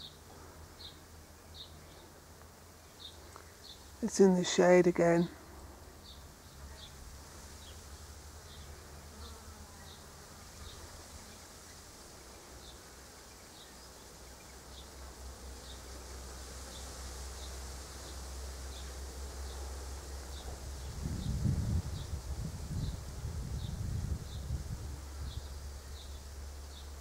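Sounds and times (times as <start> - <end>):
low hum and hiss: 0.0 - 27.0.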